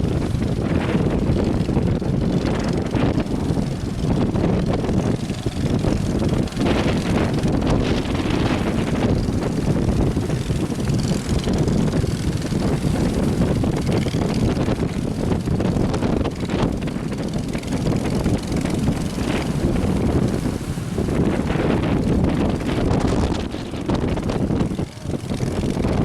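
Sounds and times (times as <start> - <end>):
boat engines droning: 0.0 - 26.0
wind buffeting microphone: 0.0 - 26.0.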